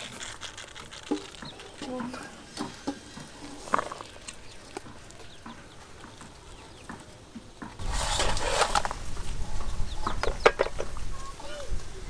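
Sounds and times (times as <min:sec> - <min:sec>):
chickens clucking: 0:00.0 - 0:11.8.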